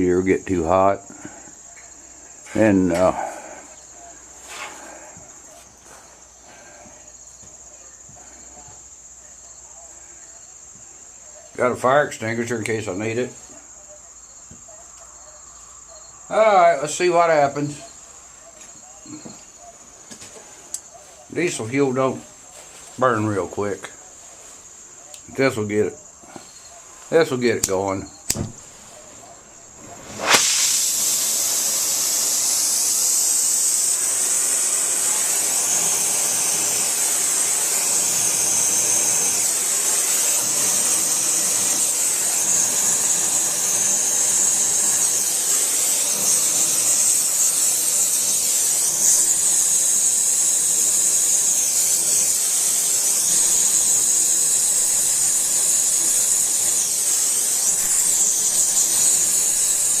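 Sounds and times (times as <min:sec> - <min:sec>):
gas torch hissing: 0:00.0 - 0:13.8, 0:16.2 - 1:00.0.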